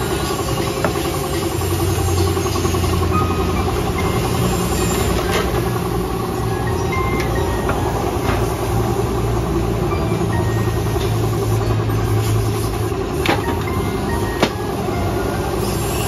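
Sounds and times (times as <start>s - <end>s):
air compressor motor drone: 0.0s - 16.0s.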